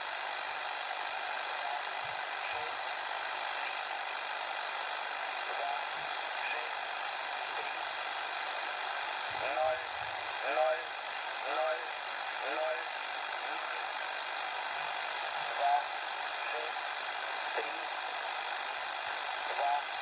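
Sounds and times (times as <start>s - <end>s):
faint weak radio signal: 0.0s - 20.0s
shortwave radio static: 0.0s - 20.0s.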